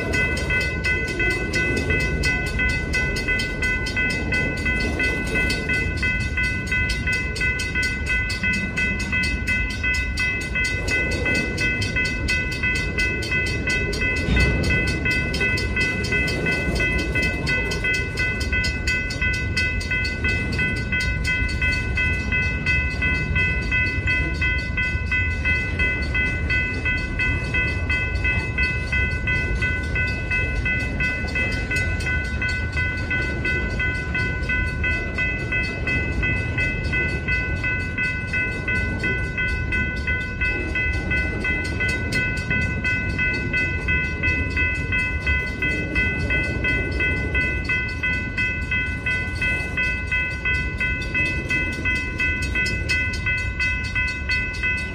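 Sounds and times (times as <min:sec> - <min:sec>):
crossing warning bell ringing: 0:00.0 - 0:54.9.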